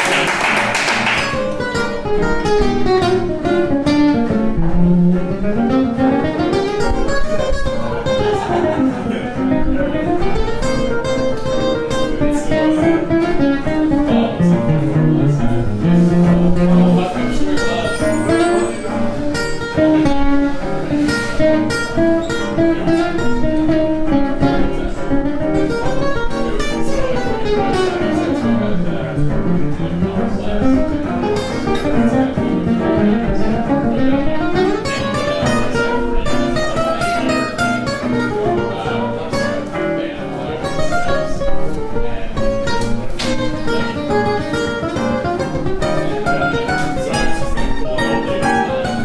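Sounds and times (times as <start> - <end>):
guitar comping chords: 0.0 - 49.0
electric guitar single-note line: 1.8 - 49.0.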